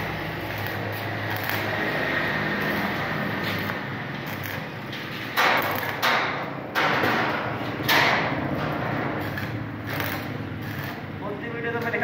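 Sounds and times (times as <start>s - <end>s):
welding arc crackling: 0.0s - 12.0s
welding machine humming: 0.0s - 12.0s.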